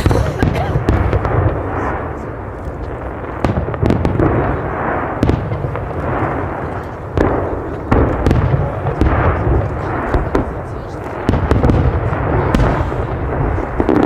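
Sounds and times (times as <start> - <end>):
fireworks sharp bangs: 0.0 - 14.0
rumble and crackle of fireworks: 0.0 - 14.0.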